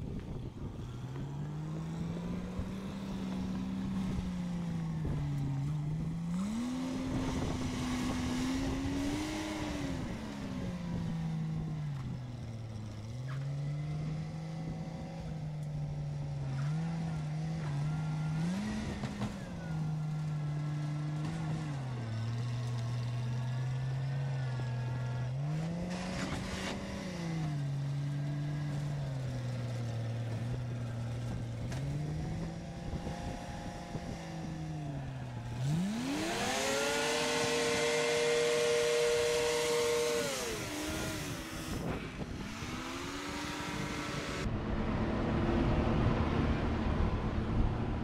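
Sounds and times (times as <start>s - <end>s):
tracked vehicle engine revving: 0.0s - 48.0s.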